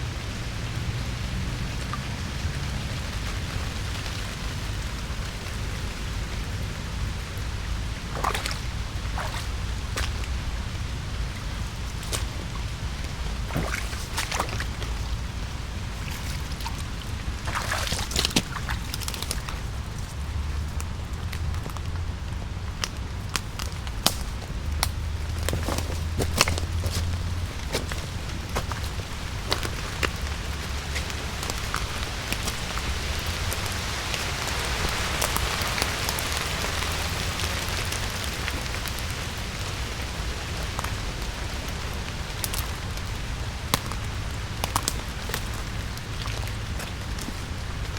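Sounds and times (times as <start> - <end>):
leaves rustling: 0.0 - 47.9
low steady rumble: 0.0 - 47.9
rain dripping on leaves: 0.0 - 47.9.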